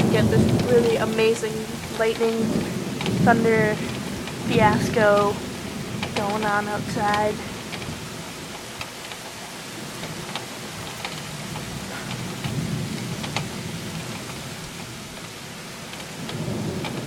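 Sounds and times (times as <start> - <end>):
low thunder rumble: 0.0 - 9.1, 9.7 - 17.0
heavy rain pouring: 0.0 - 17.0
raindrops ticking nearby: 0.0 - 17.0.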